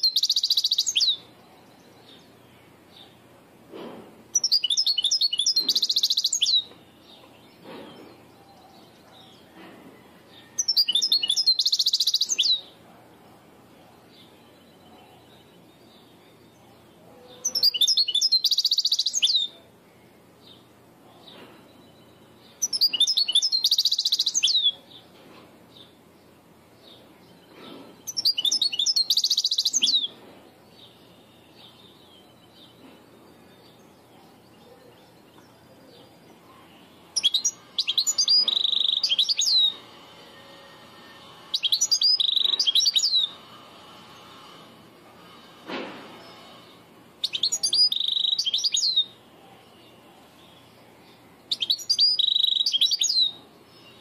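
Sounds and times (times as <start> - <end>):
goldfinch singing: 0.0 - 3.2, 4.3 - 9.7, 10.4 - 12.8, 14.1 - 19.7, 21.4 - 25.1, 26.8 - 40.8, 41.4 - 44.5, 46.1 - 54.0.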